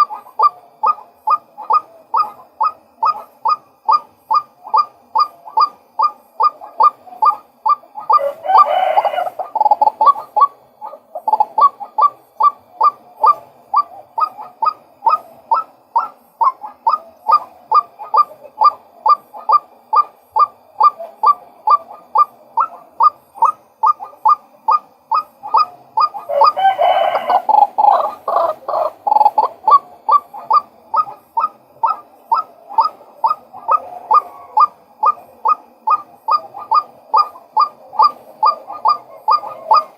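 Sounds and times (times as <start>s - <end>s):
harsh dense bird calling: 0.0s - 39.9s
waterhen kwak calls: 0.0s - 39.9s.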